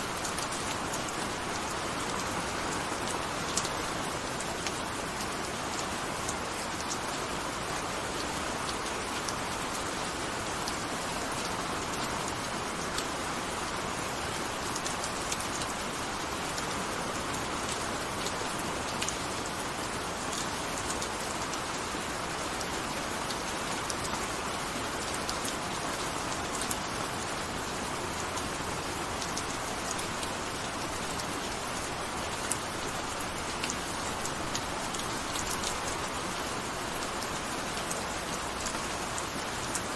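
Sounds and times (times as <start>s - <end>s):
gentle rain hiss: 0.0s - 39.9s
raindrops ticking on surface: 0.0s - 39.9s.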